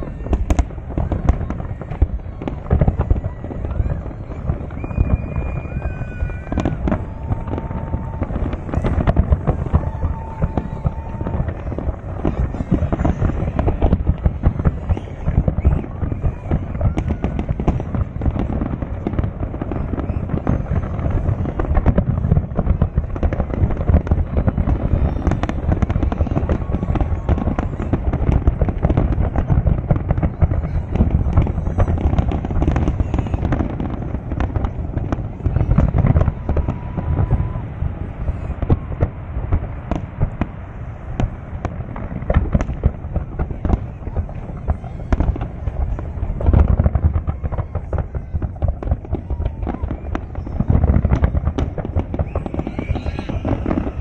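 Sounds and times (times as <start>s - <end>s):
fireworks banging and crackling: 0.0s - 54.0s.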